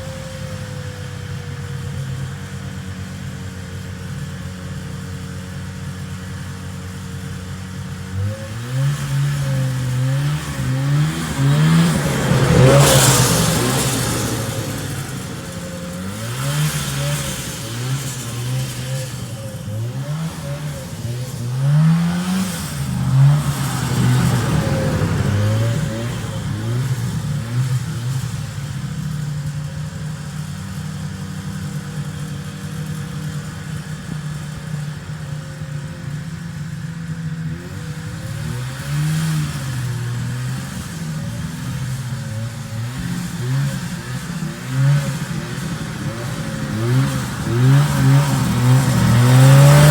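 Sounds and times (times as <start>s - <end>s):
snowmobile engine revving: 7.6s - 49.9s.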